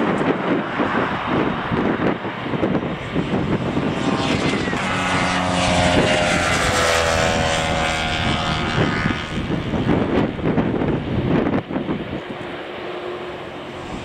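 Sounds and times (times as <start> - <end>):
jet engines rumbling and whining: 0.0 - 14.0.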